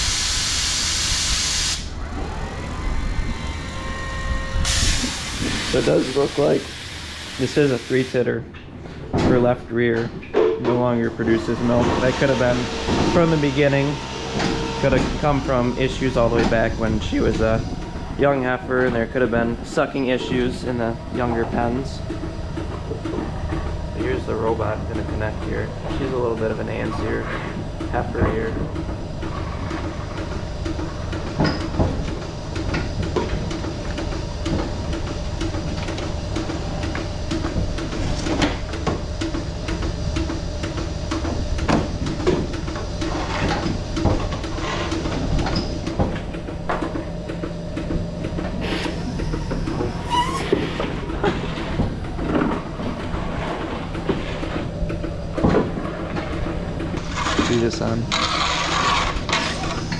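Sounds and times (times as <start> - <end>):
milking machine hum: 0.0 - 59.9
rhythmic pulsing: 11.0 - 59.9.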